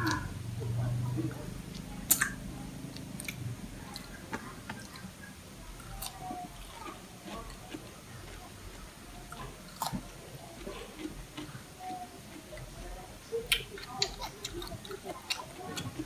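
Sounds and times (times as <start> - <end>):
person chewing food: 0.9 - 16.0.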